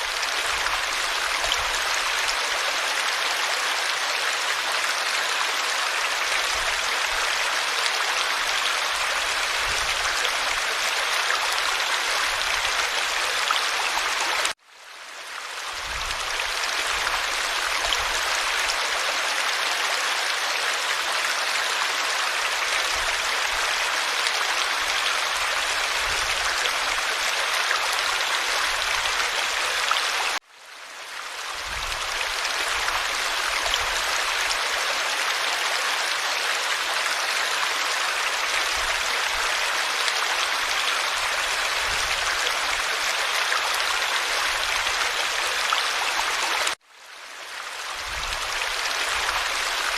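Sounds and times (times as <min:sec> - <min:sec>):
stream flowing: 0:00.0 - 0:49.9.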